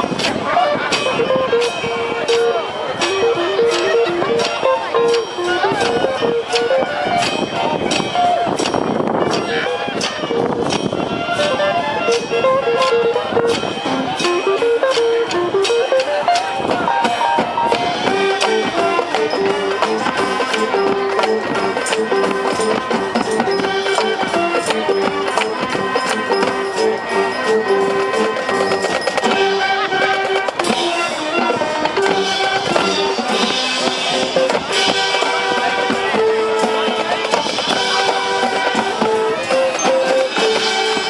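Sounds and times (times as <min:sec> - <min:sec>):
marching band playing: 0:00.0 - 0:41.0
percussion beat: 0:00.0 - 0:41.0.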